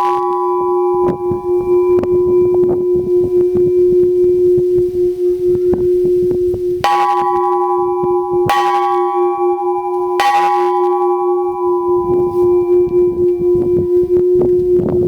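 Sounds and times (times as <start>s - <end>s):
metal bell ringing: 0.0s - 15.0s.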